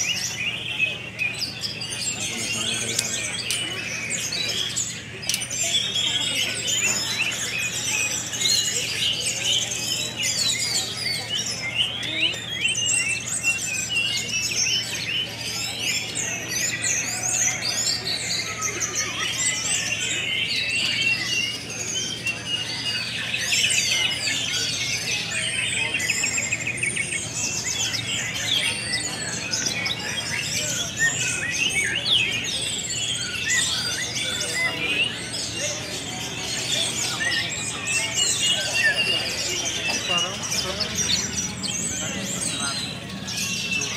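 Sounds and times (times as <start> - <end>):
songbirds chorus warbling and trilling: 0.0 - 43.9.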